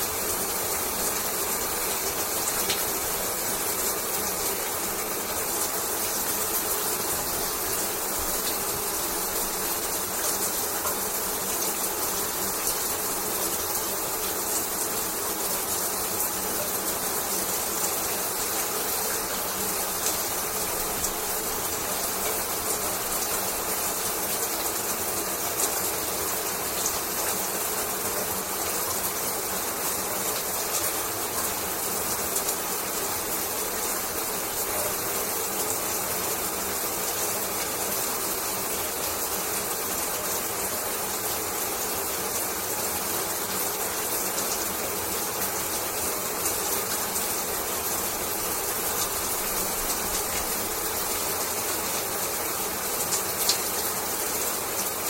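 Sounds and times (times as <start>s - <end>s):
shower running: 0.0s - 55.0s.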